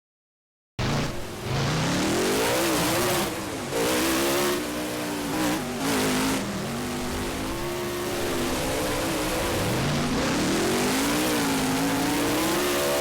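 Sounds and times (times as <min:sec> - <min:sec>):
monster truck engine revving: 0:00.8 - 0:13.0.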